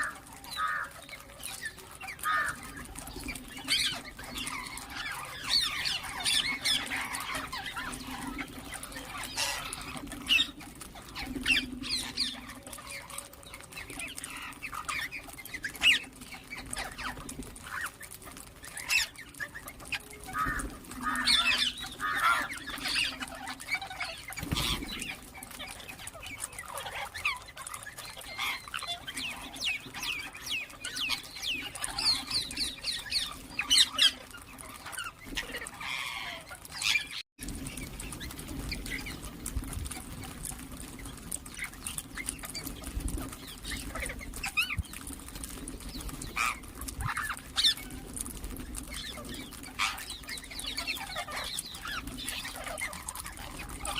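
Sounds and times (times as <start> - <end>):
parakeets chirping and squawking: 0.0 - 53.9.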